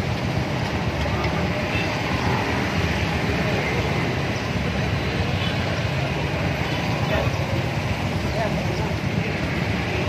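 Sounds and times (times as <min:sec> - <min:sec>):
vehicle engines rumbling: 0:00.0 - 0:10.0.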